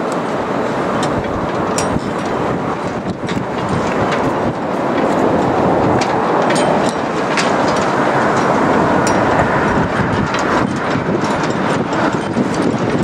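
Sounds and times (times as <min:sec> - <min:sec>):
jet engine rush: 0:00.0 - 0:13.0.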